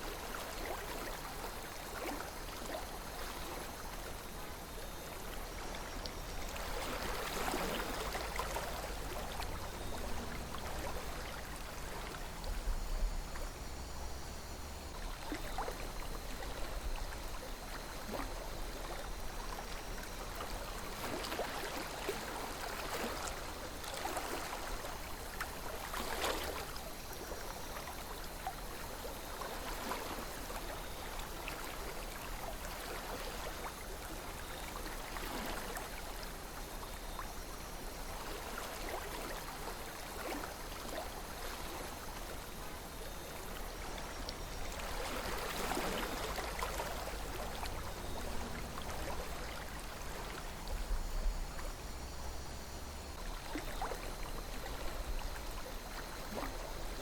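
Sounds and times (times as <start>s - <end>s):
river water flowing: 0.0s - 57.0s
water gurgles and splashes: 0.0s - 57.0s.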